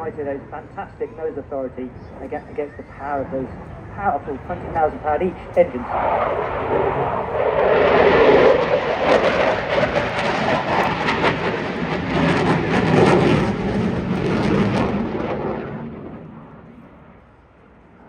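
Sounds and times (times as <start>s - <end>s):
crackling jet engine noise: 0.0s - 18.0s.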